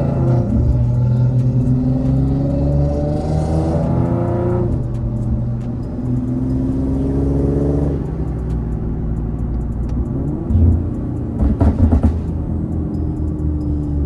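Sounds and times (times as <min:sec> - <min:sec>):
car engine accelerating hard: 0:00.0 - 0:14.0
loud exhaust rumble: 0:00.0 - 0:14.0.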